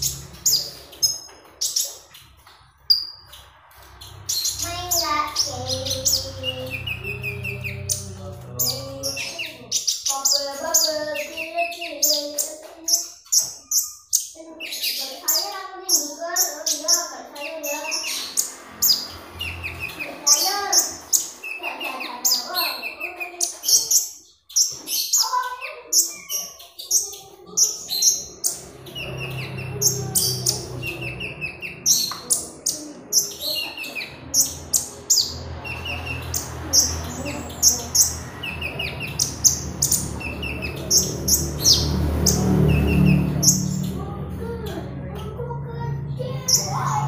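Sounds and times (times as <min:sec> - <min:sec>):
bird singing high chirps and trills: 0:00.0 - 0:47.0.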